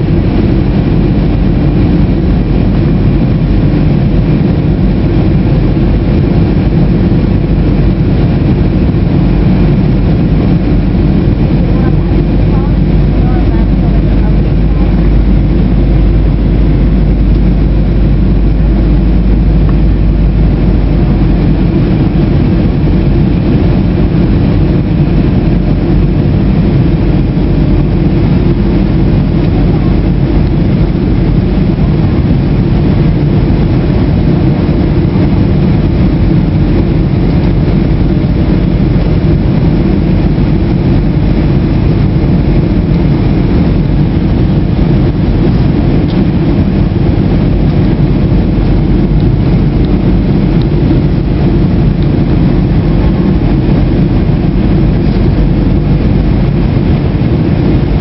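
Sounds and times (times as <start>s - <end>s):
jet engine cabin roar: 0.0s - 58.0s.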